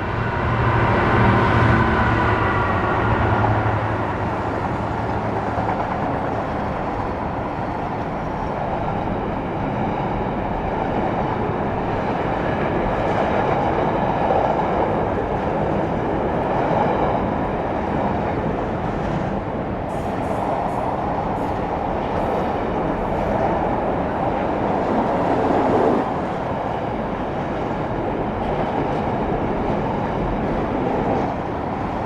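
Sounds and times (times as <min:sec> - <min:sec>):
train wagons rumbling on rails: 0:00.0 - 0:32.0.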